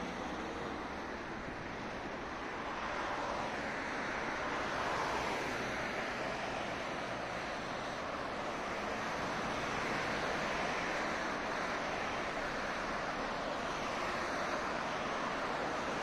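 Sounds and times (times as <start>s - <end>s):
street traffic rushing: 0.0s - 16.0s.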